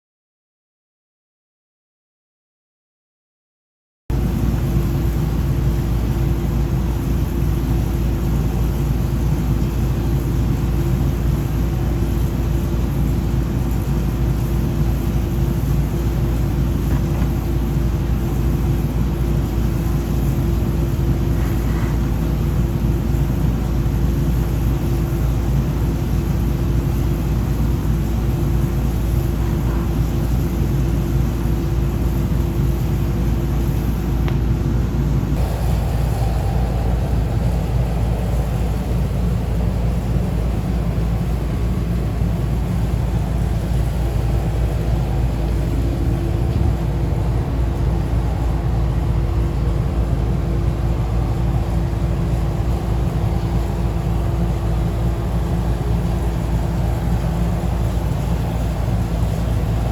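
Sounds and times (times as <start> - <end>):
machine droning: 4.1 - 59.9.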